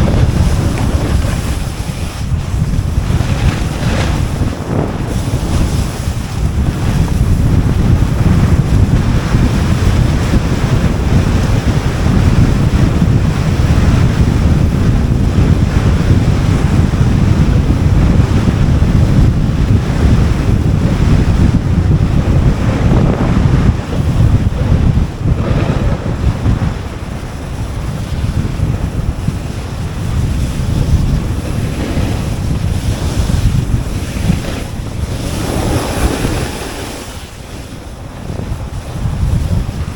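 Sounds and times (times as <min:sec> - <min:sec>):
snowboard scraping on snow: 0:00.0 - 0:39.9
wind buffeting microphone: 0:00.0 - 0:39.9.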